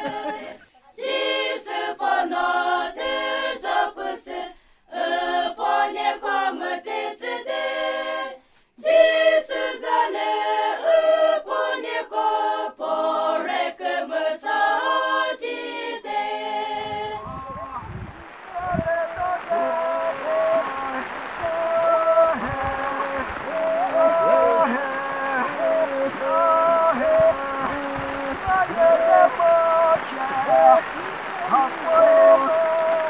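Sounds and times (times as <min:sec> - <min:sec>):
group singing unaccompanied: 0:00.0 - 0:33.0.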